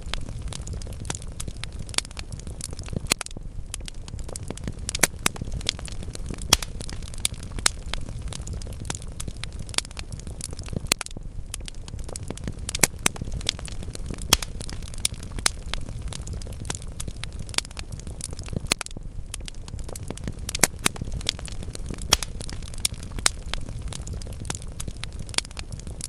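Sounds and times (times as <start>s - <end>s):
fire crackling and popping: 0.0s - 26.0s
low rumble of burning logs: 0.0s - 26.0s.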